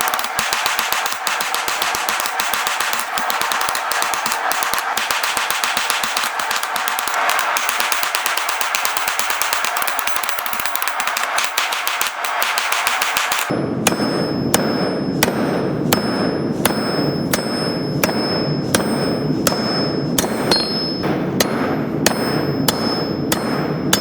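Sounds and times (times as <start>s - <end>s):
hammer blows on anvil: 0.0s - 24.0s.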